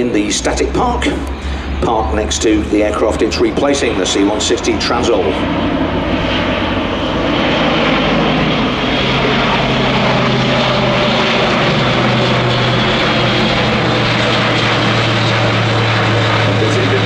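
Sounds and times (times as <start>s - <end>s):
turboprop aircraft droning past: 0.0s - 17.0s.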